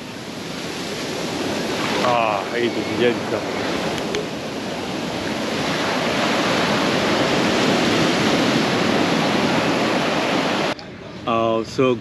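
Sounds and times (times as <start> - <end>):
sea waves washing onto beach: 0.0 - 10.8.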